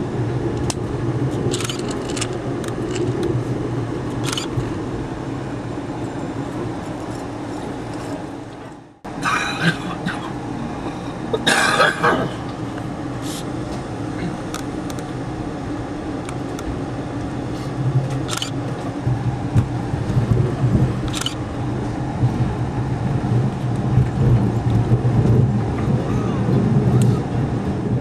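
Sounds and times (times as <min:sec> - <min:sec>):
diesel locomotive drone: 0:00.0 - 0:28.0
train rumble: 0:00.0 - 0:28.0.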